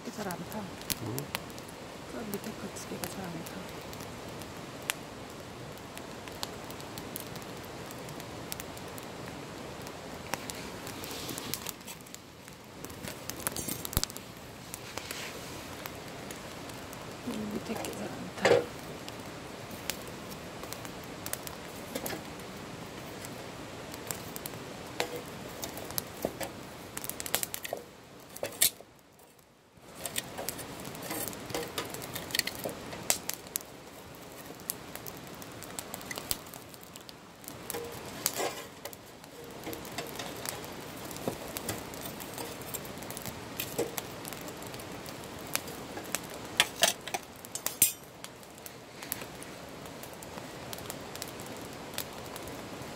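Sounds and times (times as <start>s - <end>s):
campfire crackling and popping: 0.0s - 52.9s
steady fire hiss: 0.0s - 52.9s.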